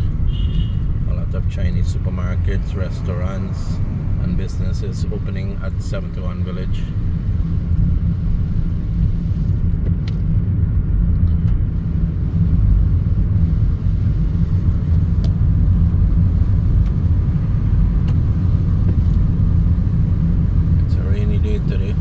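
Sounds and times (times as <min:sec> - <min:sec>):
car interior engine and road noise: 0:00.0 - 0:22.0.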